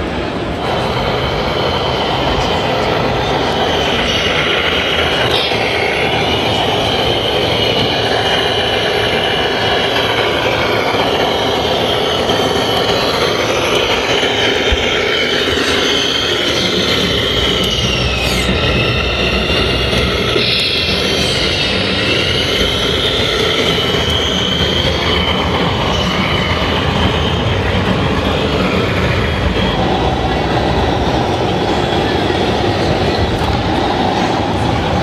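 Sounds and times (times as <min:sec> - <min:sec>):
hall noise: 0:00.0 - 0:35.0
electric motors and gearboxes whining: 0:00.5 - 0:35.0.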